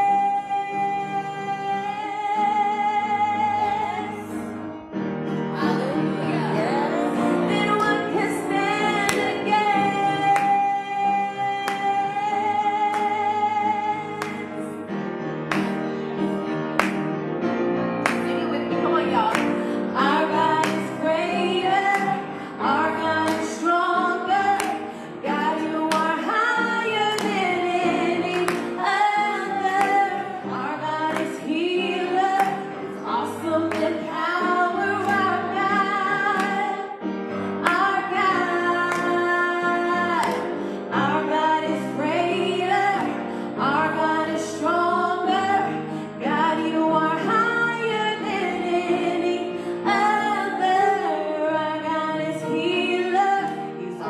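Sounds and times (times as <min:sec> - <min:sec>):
woman singing into microphone: 0:00.0 - 0:04.5, 0:05.6 - 0:14.8, 0:18.4 - 0:37.0, 0:37.6 - 0:54.0
keyboard accompaniment: 0:00.0 - 0:54.0.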